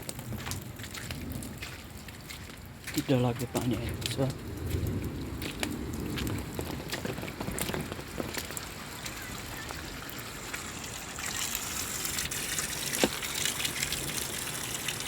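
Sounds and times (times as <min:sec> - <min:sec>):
heavy rain pouring: 0:00.0 - 0:15.0
sharp ticks of raindrops: 0:00.0 - 0:15.0.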